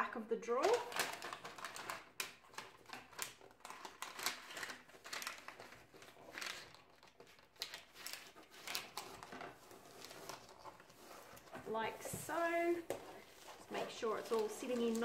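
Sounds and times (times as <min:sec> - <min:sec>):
paper crinkling and rustling: 0:00.6 - 0:15.0.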